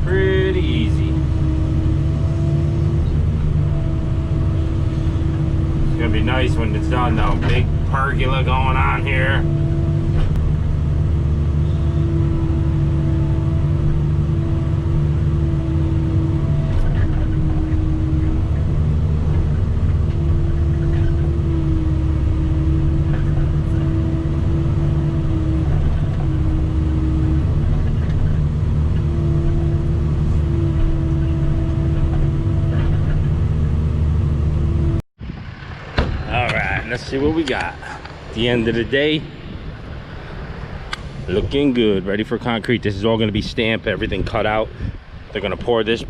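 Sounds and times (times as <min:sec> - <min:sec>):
diesel engine running under load: 0:00.0 - 0:46.0.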